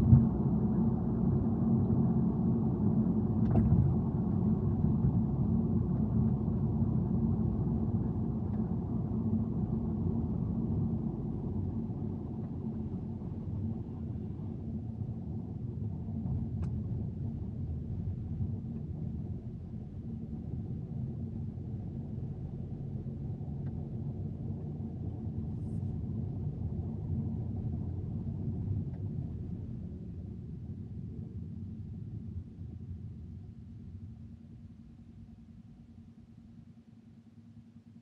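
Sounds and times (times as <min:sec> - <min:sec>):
car engine and tyres rumbling: 0:00.0 - 0:33.2.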